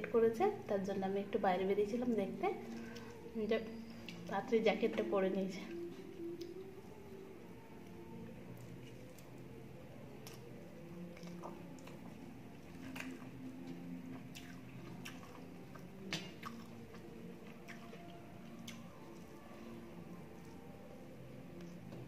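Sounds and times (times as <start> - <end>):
faint low hum: 0.0 - 22.0
person chewing with wet clicks: 2.6 - 4.3, 5.6 - 22.0.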